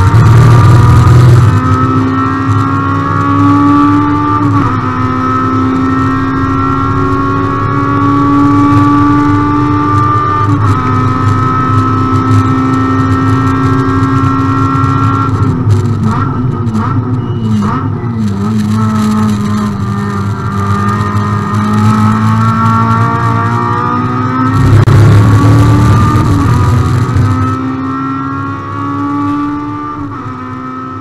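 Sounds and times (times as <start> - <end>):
car engine accelerating at full throttle: 0.0 - 31.0.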